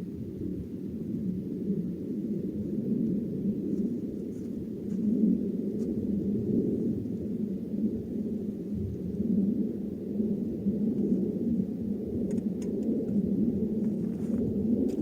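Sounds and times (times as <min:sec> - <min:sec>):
blizzard wind rumbling: 0:00.0 - 0:15.0.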